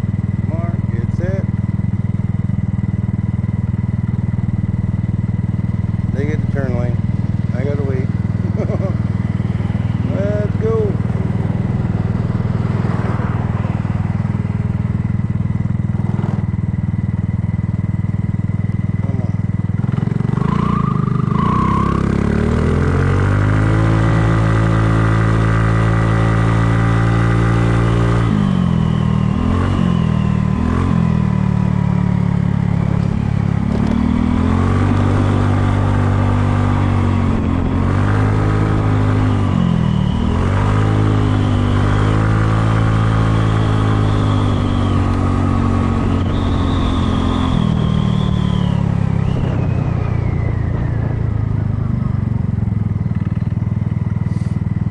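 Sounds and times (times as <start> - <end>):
scooter engine revving: 0.0 - 54.9.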